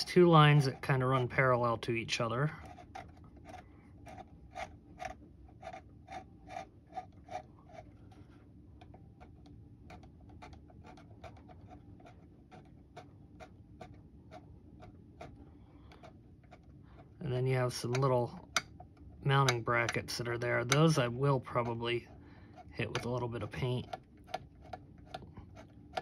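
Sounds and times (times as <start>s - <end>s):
tool scraping plastic: 0.0s - 26.0s.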